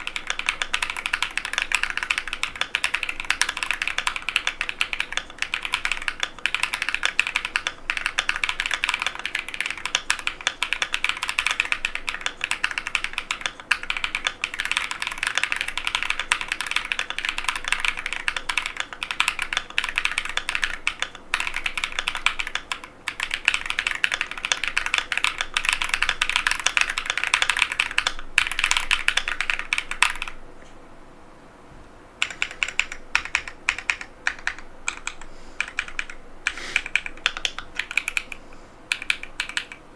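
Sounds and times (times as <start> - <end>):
mechanical keyboard typing: 0.0 - 30.4, 32.2 - 39.8.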